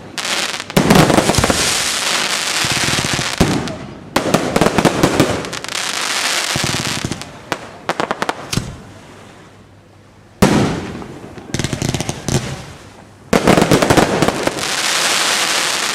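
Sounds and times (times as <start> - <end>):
fireworks bangs: 0.0 - 8.9, 10.4 - 15.9
fireworks crackling: 0.0 - 8.9, 10.4 - 15.9.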